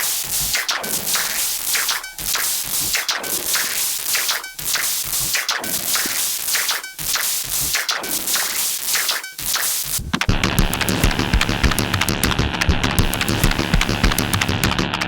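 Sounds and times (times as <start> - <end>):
electronic drum loop hissing hits: 0.0 - 15.0.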